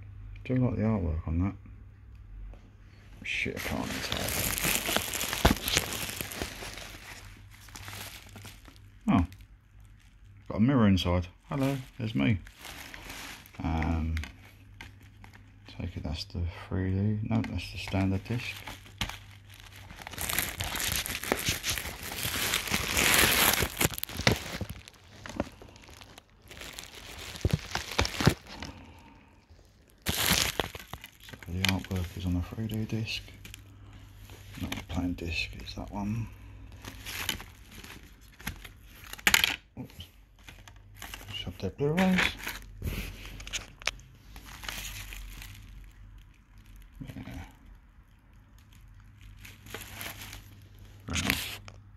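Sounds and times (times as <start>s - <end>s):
bubble wrap crinkling: 3.3s - 16.2s, 17.0s - 51.9s.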